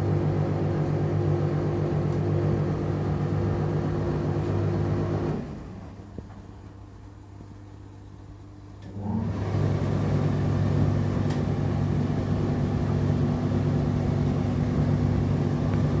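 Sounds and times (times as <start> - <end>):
dryer drum motor humming: 0.0 - 16.0.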